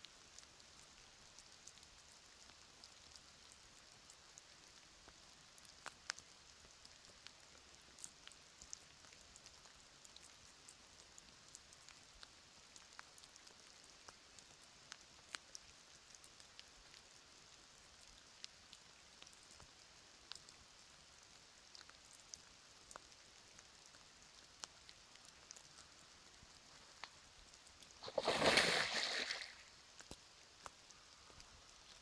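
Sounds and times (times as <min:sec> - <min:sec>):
faint steady hiss: 0:00.0 - 0:32.0
raindrops ticking: 0:00.0 - 0:32.0.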